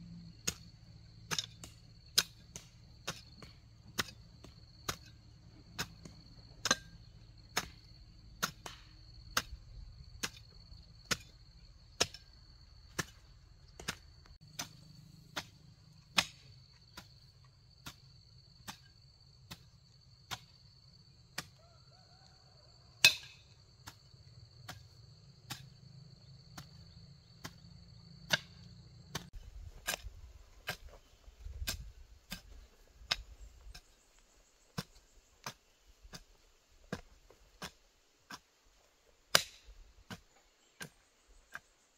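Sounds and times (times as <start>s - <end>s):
hoe chopping into soil: 0.4s - 20.7s, 21.3s - 21.7s, 23.0s - 25.9s, 26.5s - 41.8s.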